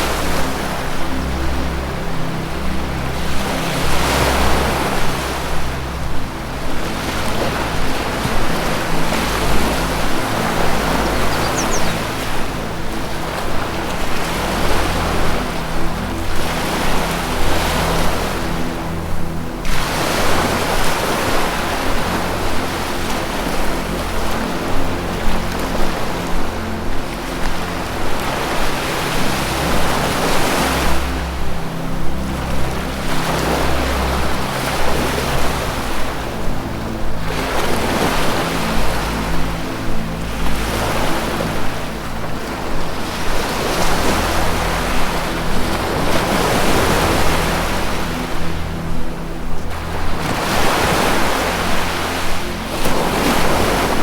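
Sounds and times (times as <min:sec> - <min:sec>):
ambient music low tones: 0:00.0 - 0:54.0
ocean surf washing in: 0:00.0 - 0:54.0.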